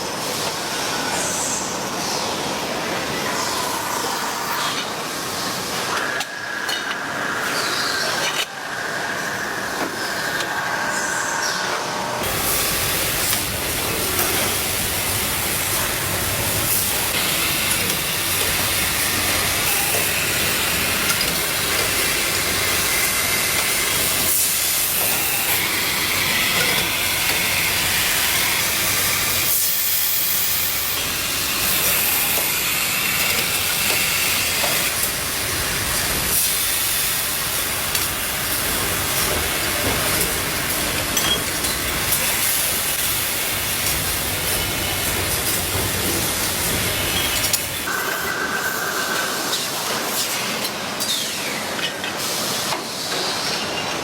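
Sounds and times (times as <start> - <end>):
factory machinery hiss: 0.0 - 53.7.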